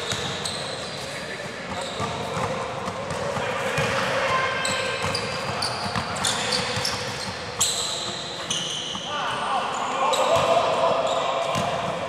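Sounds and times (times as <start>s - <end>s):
players' voices echoing: 0.0s - 12.0s
sneakers squeaking on floor: 0.0s - 12.0s.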